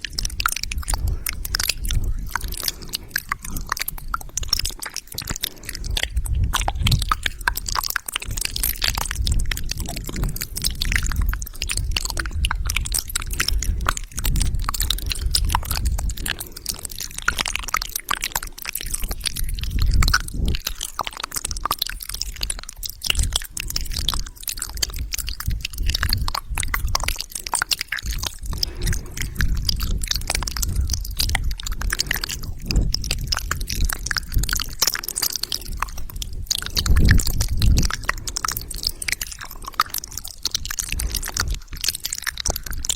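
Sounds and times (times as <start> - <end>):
wet mouth clicks and smacks: 0.0 - 42.9.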